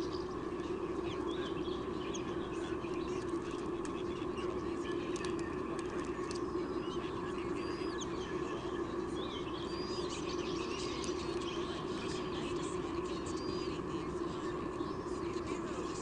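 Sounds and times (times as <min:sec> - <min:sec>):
low microphone hum: 0:00.0 - 0:16.0.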